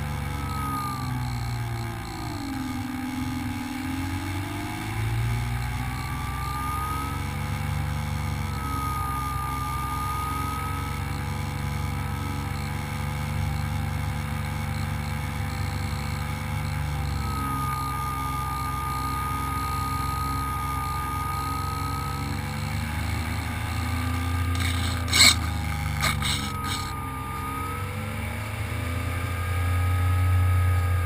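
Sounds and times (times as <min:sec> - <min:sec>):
electric motor and propeller whining: 0:00.0 - 0:31.0.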